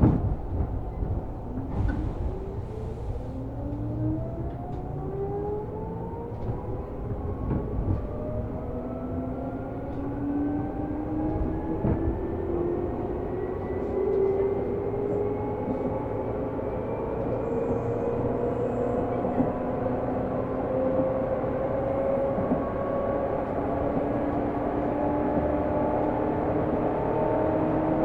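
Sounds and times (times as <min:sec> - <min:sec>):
train rolling rumble: 0:00.0 - 0:28.0.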